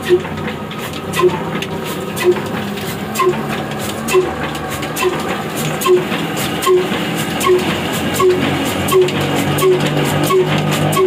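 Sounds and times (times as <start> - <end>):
diesel engine mechanical clatter: 0.0 - 11.0.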